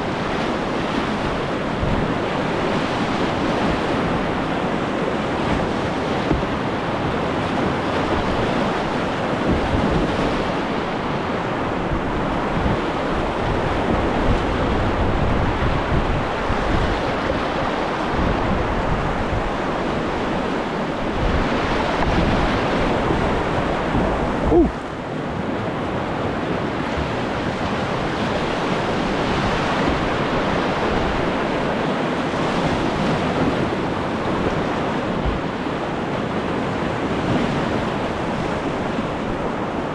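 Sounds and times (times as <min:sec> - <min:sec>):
river whitewater rushing: 0:00.0 - 0:39.9.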